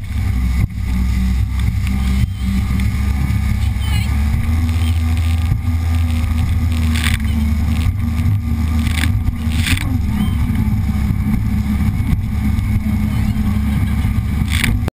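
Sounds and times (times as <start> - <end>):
watercraft engine running: 0.0 - 14.9.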